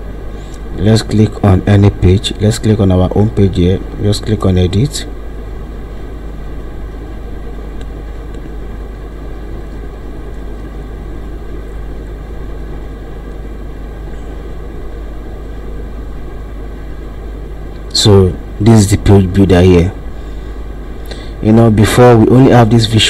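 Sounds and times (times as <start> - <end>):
low hum and rumble: 0.0 - 23.0.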